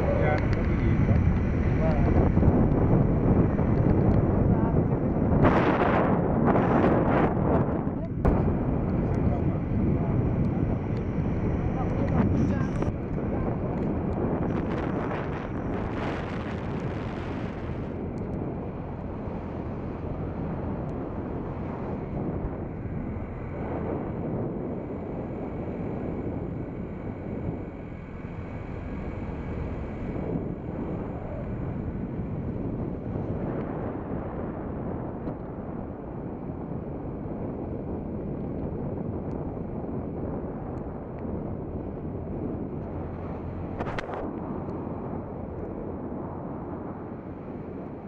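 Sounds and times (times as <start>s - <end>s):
road rumble: 0.0s - 48.0s
wind on microphone: 0.0s - 48.0s.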